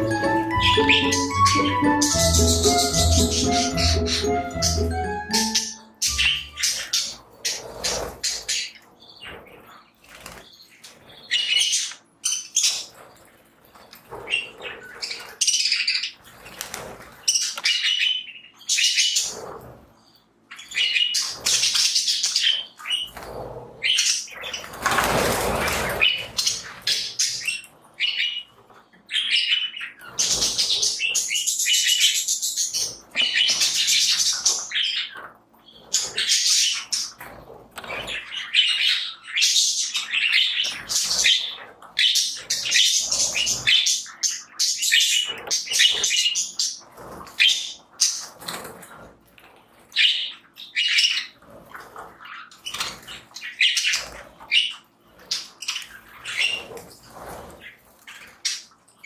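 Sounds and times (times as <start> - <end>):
budgies chirping and chattering: 0.0 - 59.0.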